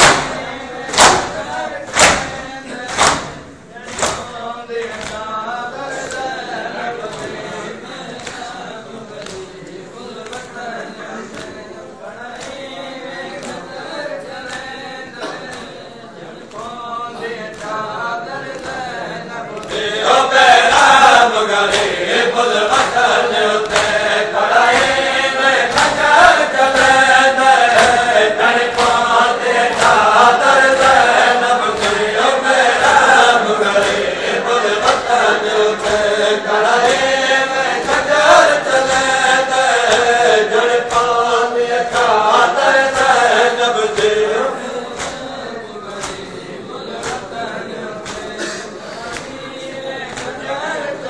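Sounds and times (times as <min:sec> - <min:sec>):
group chanting a lament in unison: 0:00.0 - 0:51.0
rhythmic hand strikes on chest: 0:00.0 - 0:51.0.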